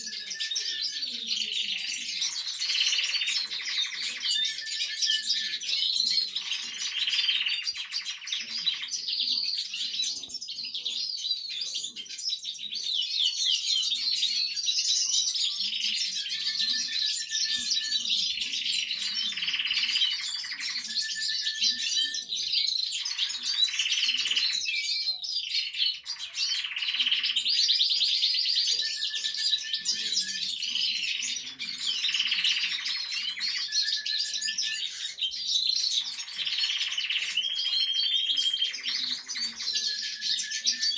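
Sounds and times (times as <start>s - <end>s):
canary trills and chirps: 0.0s - 40.9s.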